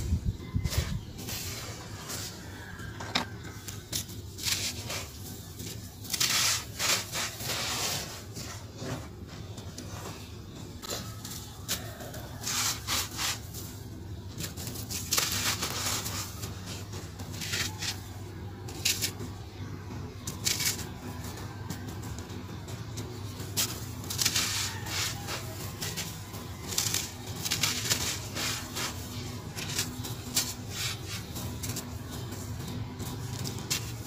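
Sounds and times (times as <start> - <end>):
hand rubbing dry cement powder: 0.0 - 19.5, 20.2 - 21.6, 22.4 - 34.0.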